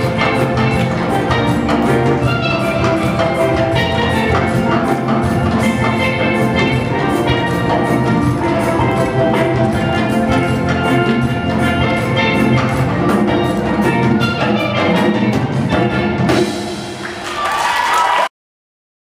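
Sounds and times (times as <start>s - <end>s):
steel pan melody: 0.0s - 17.0s
backing band with drum kit: 0.0s - 18.3s.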